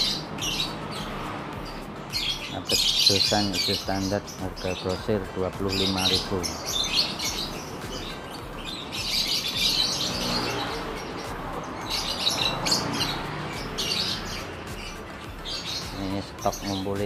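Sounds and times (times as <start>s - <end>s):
lovebirds chattering: 0.0s - 17.0s.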